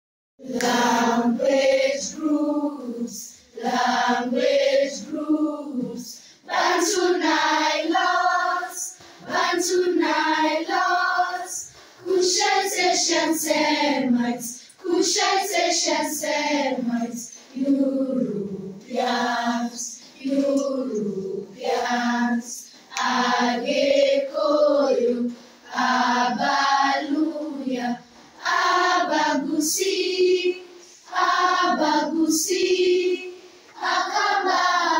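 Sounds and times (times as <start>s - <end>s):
group of voices singing: 0.4s - 34.9s.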